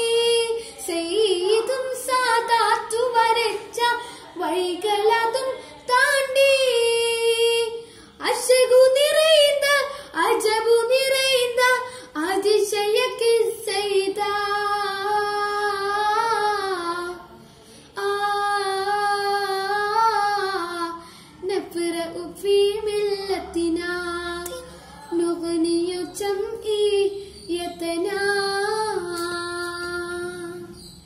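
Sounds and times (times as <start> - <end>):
boy singing: 0.0 - 17.3, 18.0 - 30.9.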